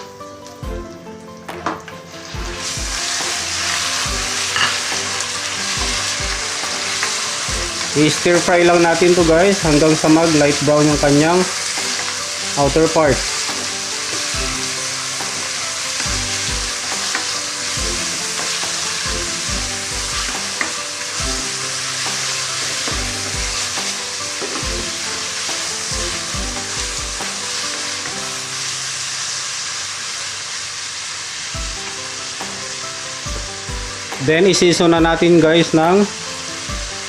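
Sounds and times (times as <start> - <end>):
chicken sizzling in oil: 0.0 - 37.0.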